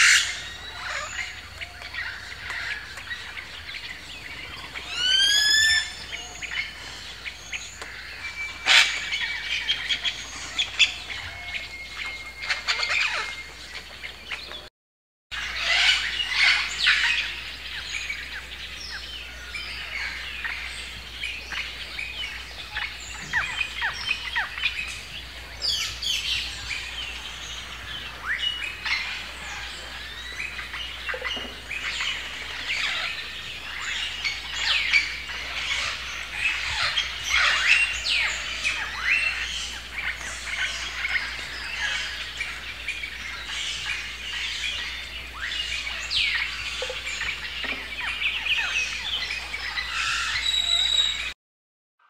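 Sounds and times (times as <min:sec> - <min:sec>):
many birds chirping: 0:00.0 - 0:14.7, 0:15.3 - 0:51.4.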